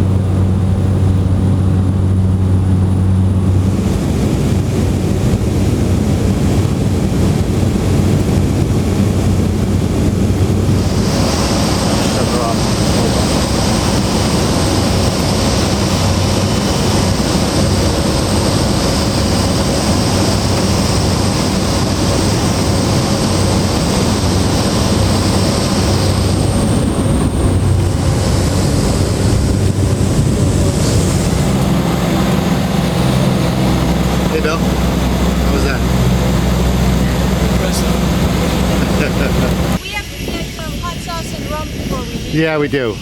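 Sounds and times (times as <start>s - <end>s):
high engine whine: 0.0s - 43.0s
loud engine drone: 0.0s - 43.0s.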